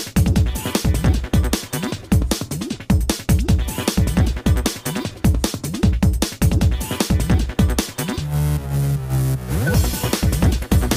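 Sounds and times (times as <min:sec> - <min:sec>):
electronic dance music: 0:00.0 - 0:10.9.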